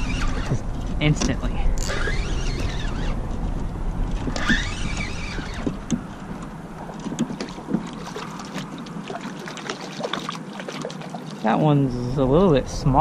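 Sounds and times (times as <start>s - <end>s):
water sloshing and splashing: 0.0s - 12.3s.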